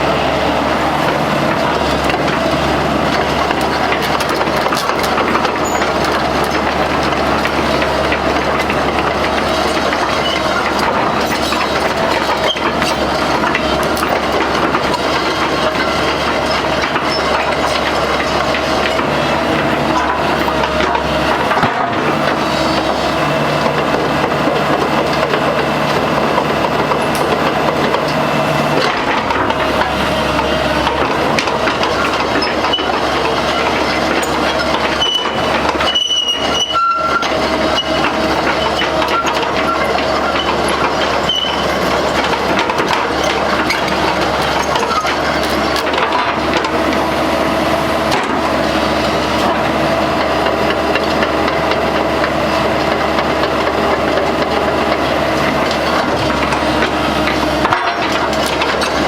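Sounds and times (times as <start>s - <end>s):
excavator engine droning: 0.0s - 59.0s
clanks and knocks: 0.9s - 59.0s.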